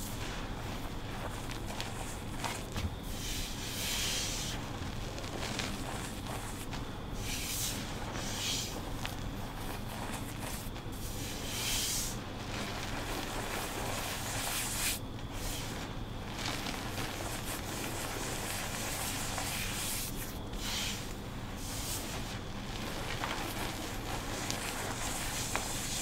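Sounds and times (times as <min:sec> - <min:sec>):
hands rubbing chalk powder: 0:00.0 - 0:26.0.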